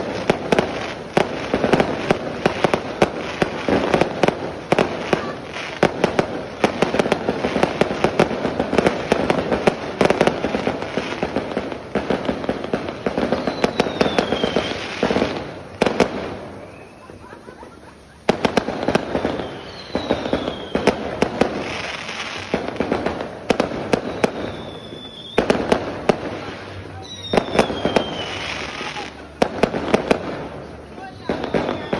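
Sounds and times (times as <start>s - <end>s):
fireworks crackling and banging: 0.0s - 31.9s.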